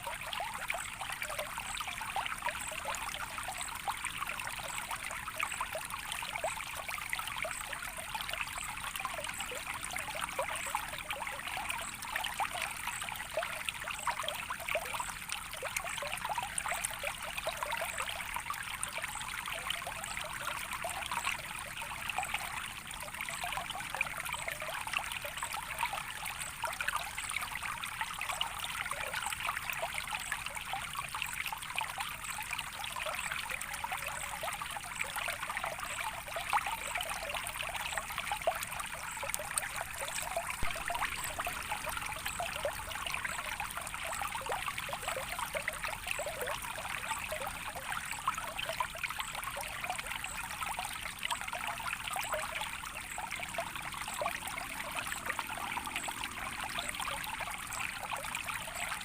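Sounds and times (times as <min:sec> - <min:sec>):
shallow water trickling: 0:00.0 - 0:59.0.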